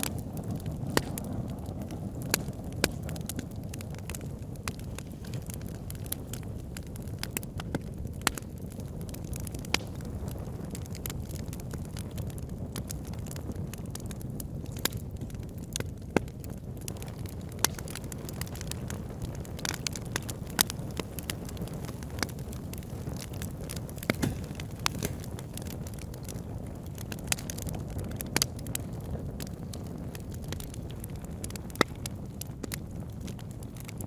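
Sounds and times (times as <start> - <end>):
low rumble of flames: 0.0 - 34.0
wood fire crackles and pops: 0.0 - 34.0.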